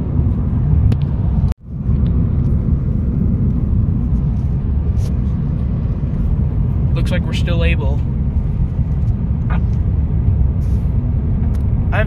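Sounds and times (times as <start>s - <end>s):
car rumbling on road: 0.0s - 12.0s.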